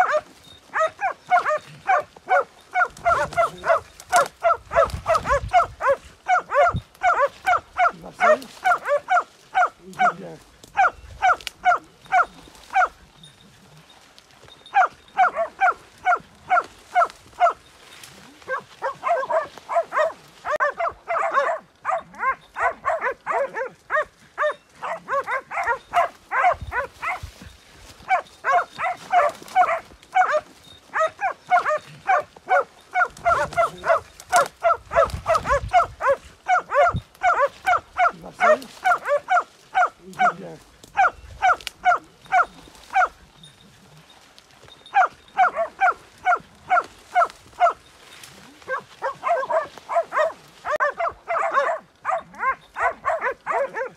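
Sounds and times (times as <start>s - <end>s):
hunting dogs barking: 0.0s - 53.9s.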